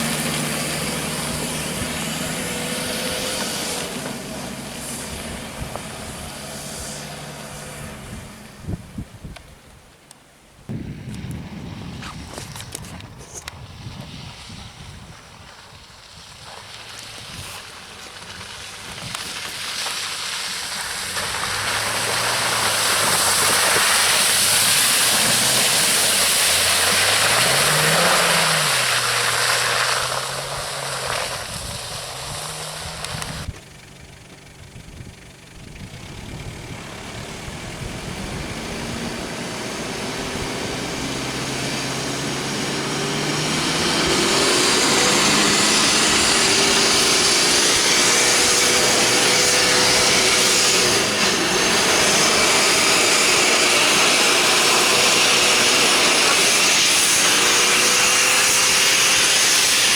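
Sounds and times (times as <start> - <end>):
suv engine revving: 0.0 - 9.2, 16.5 - 59.9.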